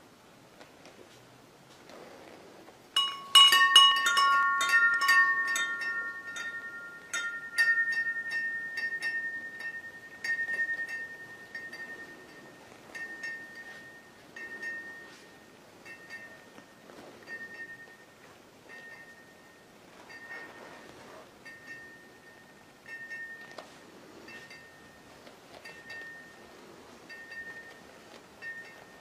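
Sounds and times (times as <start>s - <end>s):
metal tube wind chime ringing: 3.0s - 29.0s.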